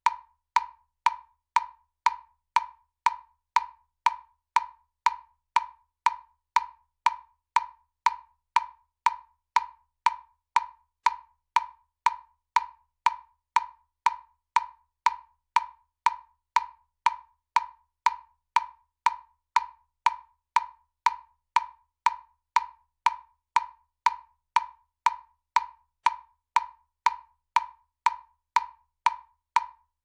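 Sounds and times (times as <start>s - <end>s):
metronome ticking: 0.0s - 29.9s.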